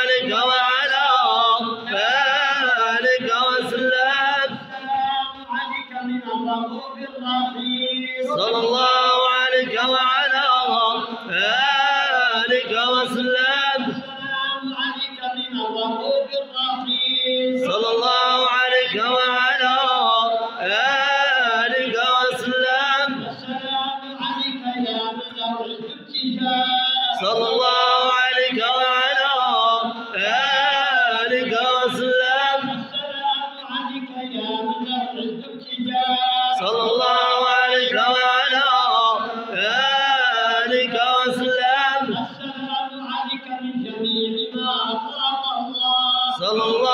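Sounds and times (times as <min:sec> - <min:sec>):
men chanting unaccompanied: 0:00.0 - 0:46.9.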